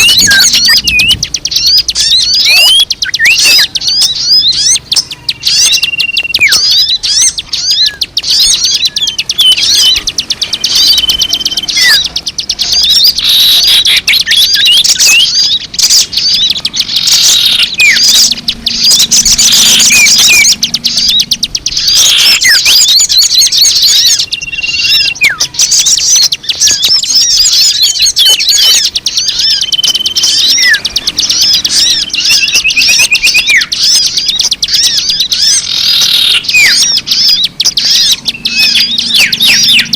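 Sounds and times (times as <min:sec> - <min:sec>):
songbirds twittering and chirping: 0:00.0 - 0:39.9.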